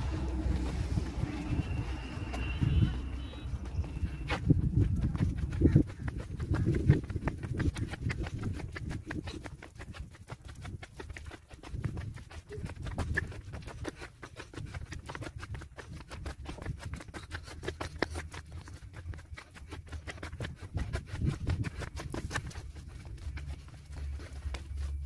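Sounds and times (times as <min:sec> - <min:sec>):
footsteps on flagstones: 0:00.0 - 0:25.0.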